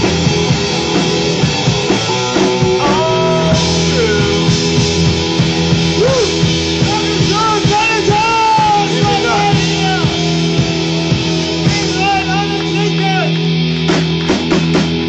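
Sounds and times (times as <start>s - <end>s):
bass guitar: 0.0s - 15.0s
distorted electric guitars: 0.0s - 15.0s
drum kit: 0.0s - 15.0s.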